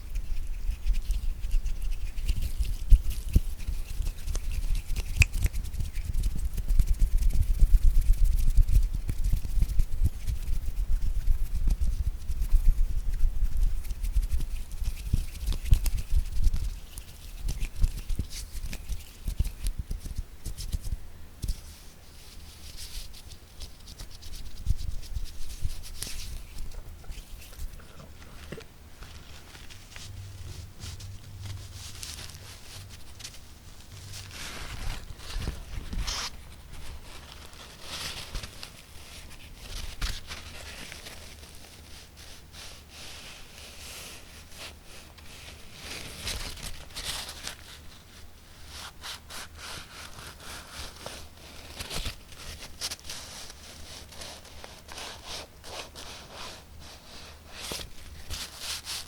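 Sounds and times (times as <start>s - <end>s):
hand rubbing and scratching: 0.0s - 59.0s.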